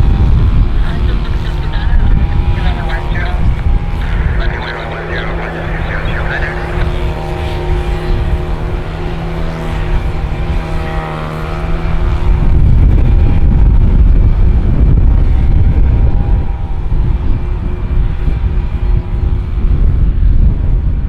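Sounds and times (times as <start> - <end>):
airliner passing overhead: 0.0 - 21.0.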